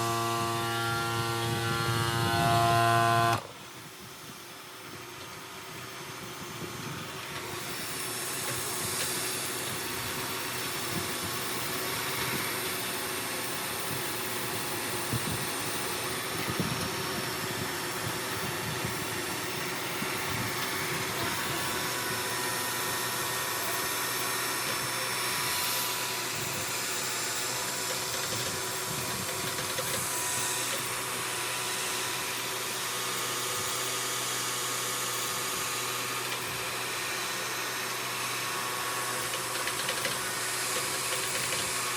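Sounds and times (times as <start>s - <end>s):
milling machine cutting metal: 0.0s - 41.9s.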